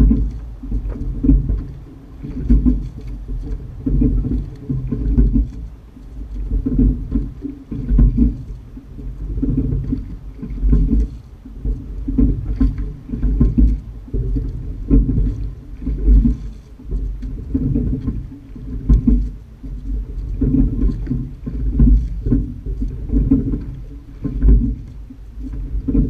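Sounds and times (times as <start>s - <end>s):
oar knocks: 0.0s - 26.0s
rushing water: 0.0s - 26.0s.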